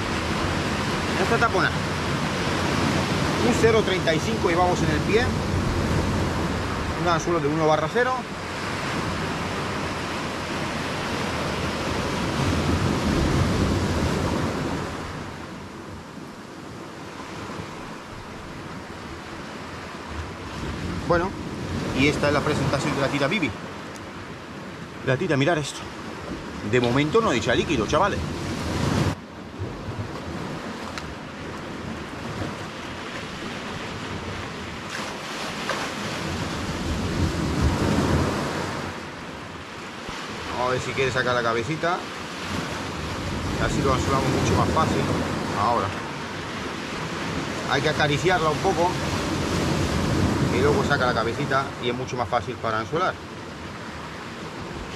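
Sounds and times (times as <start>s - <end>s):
wind on microphone: 0.0s - 25.1s, 25.8s - 40.6s, 42.2s - 51.5s
sea waves washing on shore: 0.0s - 54.9s.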